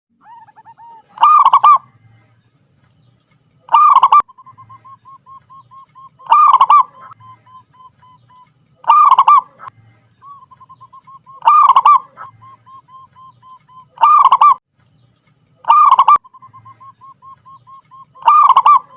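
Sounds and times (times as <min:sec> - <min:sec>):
dove cooing: 0:00.2 - 0:01.9, 0:03.7 - 0:14.6, 0:15.6 - 0:18.9.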